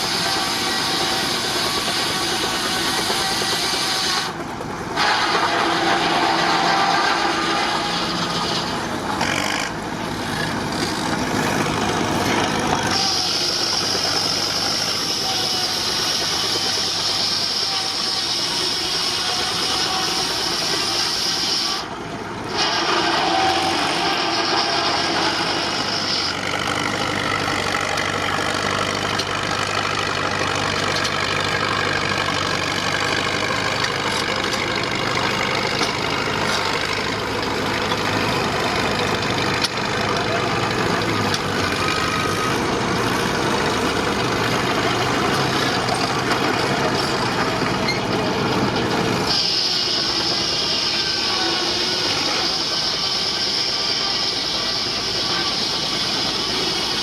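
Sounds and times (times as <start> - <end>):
sawmill machinery: 0.0 - 57.0
steam traction engine running: 0.0 - 57.0.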